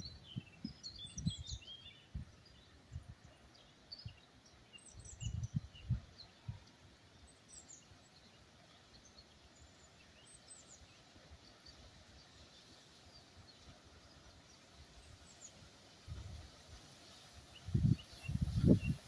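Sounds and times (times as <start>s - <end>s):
faint outdoor background noise: 0.0s - 19.0s
small birds singing: 0.0s - 19.0s.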